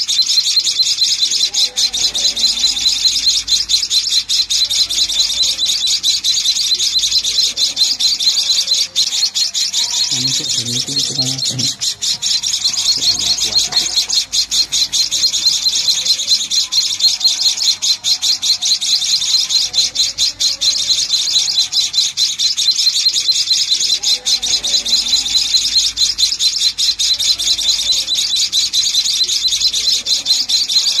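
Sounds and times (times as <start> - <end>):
nestling songbirds chirping: 0.0 - 31.0.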